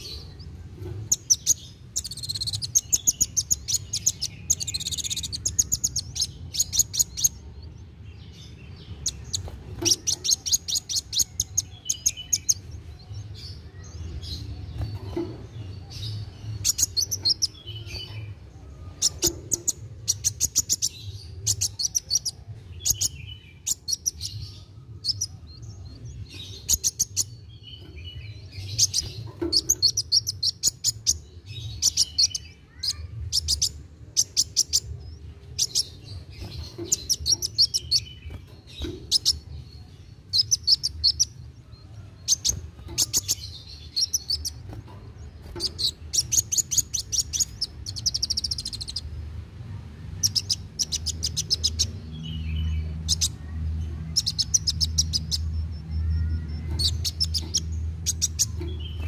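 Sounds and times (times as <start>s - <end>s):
bird singing chattering trills: 0.0s - 49.2s, 50.1s - 59.0s.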